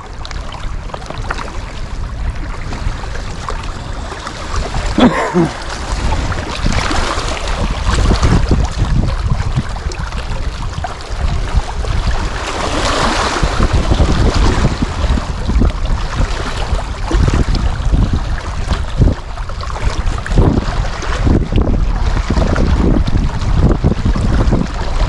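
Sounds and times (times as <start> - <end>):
waves rushing: 0.0 - 25.0
wind buffeting microphone: 0.0 - 25.0.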